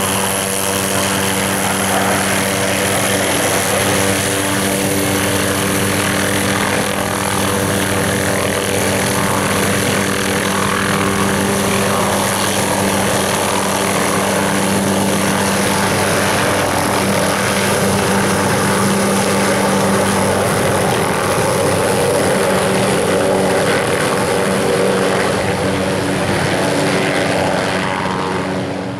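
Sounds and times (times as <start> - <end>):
helicopter engine and rotor: 0.0 - 28.9.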